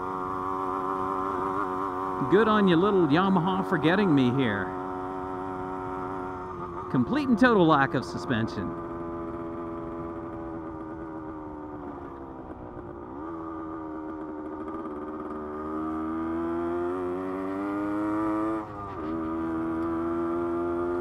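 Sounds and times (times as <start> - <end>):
two-stroke motorcycle engine running: 0.0 - 21.0.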